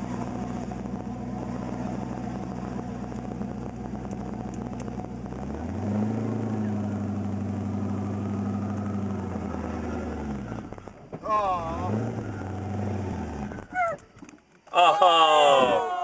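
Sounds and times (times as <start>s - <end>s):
car engine idling and revving: 0.0s - 14.6s.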